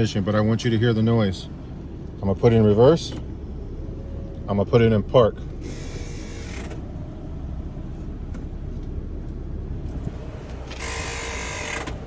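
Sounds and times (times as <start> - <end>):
car running with low rumble: 0.0 - 12.0.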